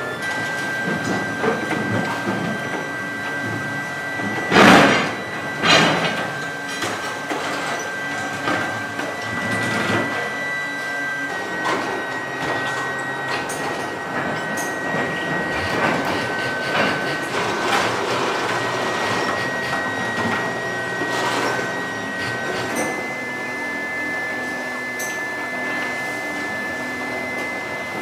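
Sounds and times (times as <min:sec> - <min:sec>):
factory machinery high whine: 0:00.0 - 0:28.0.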